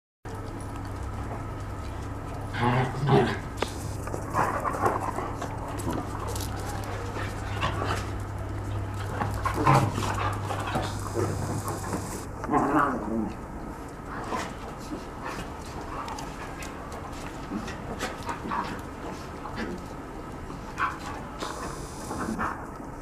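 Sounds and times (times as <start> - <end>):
steady low hum: 0.3 - 23.0.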